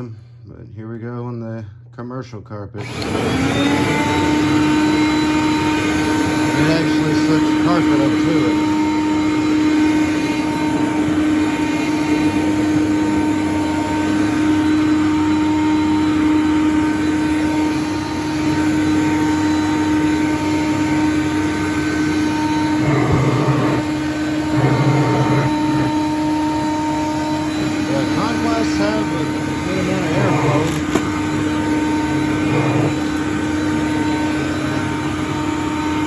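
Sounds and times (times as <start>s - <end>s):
vacuum cleaner running on carpet: 2.8s - 36.0s.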